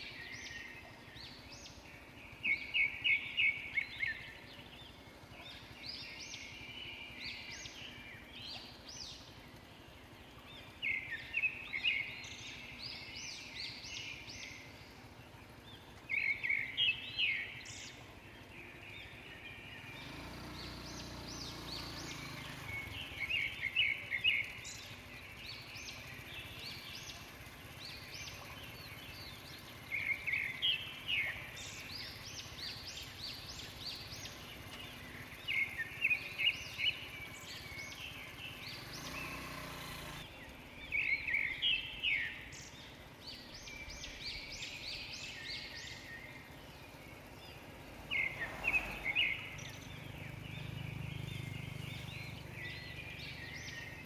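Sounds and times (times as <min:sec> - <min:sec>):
birds singing: 0:00.0 - 0:54.0.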